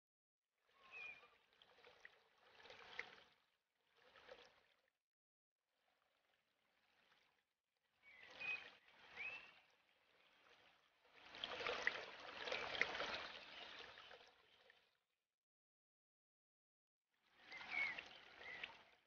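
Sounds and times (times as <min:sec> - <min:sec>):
aquarium water trickling: 0:00.6 - 0:05.0, 0:05.8 - 0:15.0, 0:17.2 - 0:19.0.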